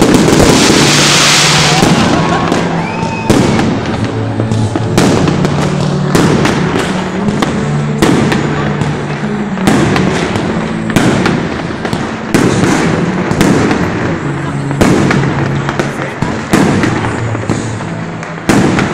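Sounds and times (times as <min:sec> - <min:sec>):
firework bangs: 0:00.0 - 0:18.9
firework crackle: 0:00.0 - 0:18.9.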